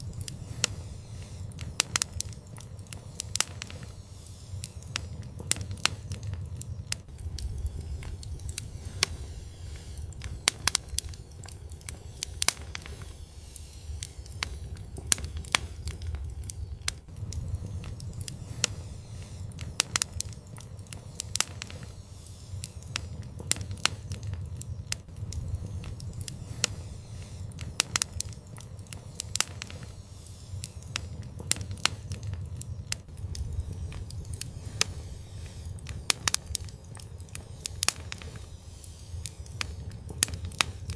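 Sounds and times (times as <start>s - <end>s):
fire crackling and popping: 0.0s - 40.9s
fire low rumble: 0.0s - 40.9s.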